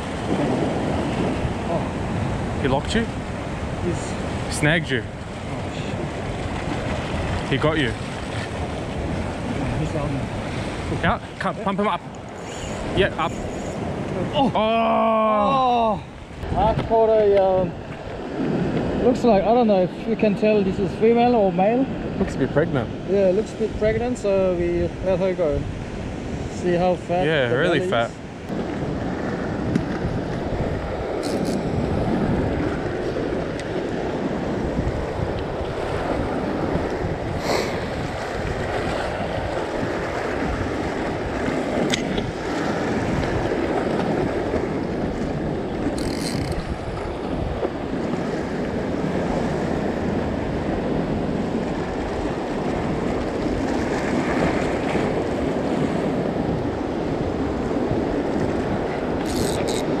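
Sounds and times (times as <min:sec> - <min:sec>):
wind buffeting microphone: 0:00.0 - 1:00.0.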